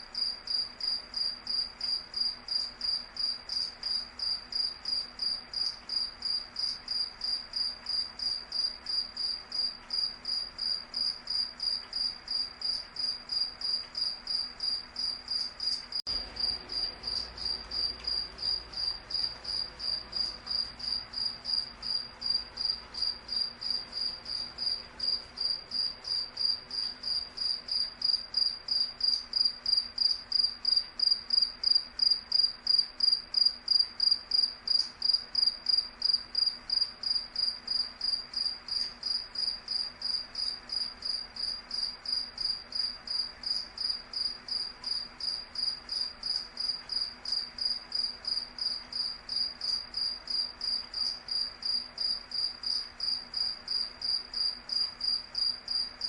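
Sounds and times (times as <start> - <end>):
cricket chirping: 0.2 - 56.0.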